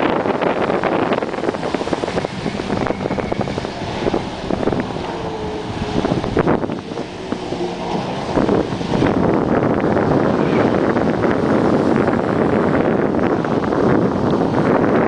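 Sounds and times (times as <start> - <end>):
personal watercraft engine: 0.0 - 15.0
wind buffeting microphone: 0.0 - 15.0.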